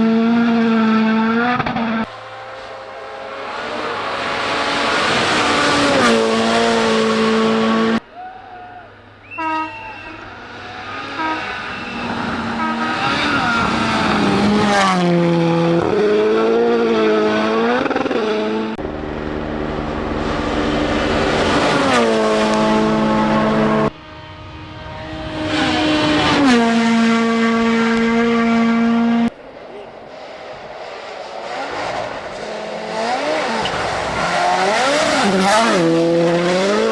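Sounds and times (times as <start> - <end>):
rally car engines at full throttle: 0.0 - 36.9.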